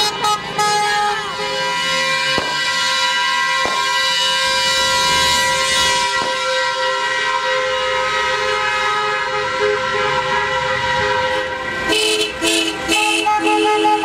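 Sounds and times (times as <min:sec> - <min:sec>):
car horns honking: 0:00.0 - 0:14.0.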